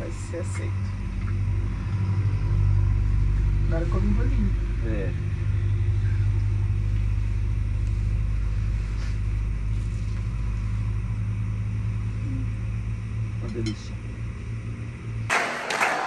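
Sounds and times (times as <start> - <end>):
vehicle engine idling hum: 0.0 - 15.3.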